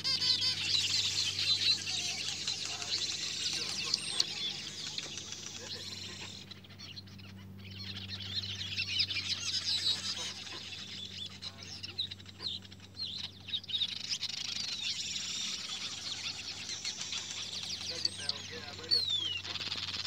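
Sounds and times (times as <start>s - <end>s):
birds chirping rapidly: 0.0s - 20.0s
steady low hum: 0.0s - 20.0s.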